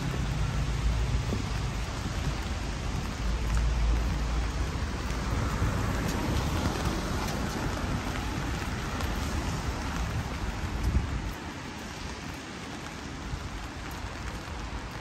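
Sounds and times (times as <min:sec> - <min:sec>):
rain hissing on wet street: 0:00.0 - 0:15.0.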